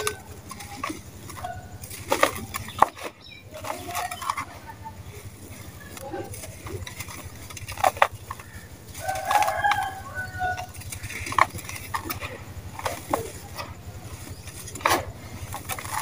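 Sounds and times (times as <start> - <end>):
animal calling: 0.0 - 16.0
sand-cement chunks crumbling and cracking: 0.0 - 16.0.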